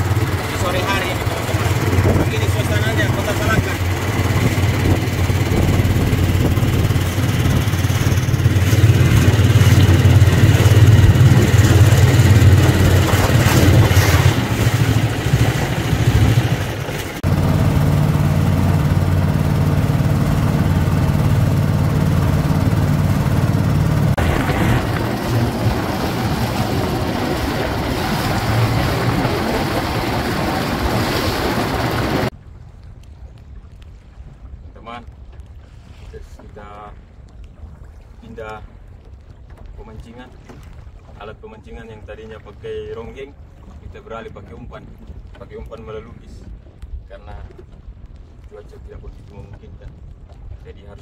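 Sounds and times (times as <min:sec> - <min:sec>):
boat engine humming: 0:00.0 - 0:32.3, 0:37.0 - 0:47.0
water rushing along hull: 0:00.0 - 0:51.0.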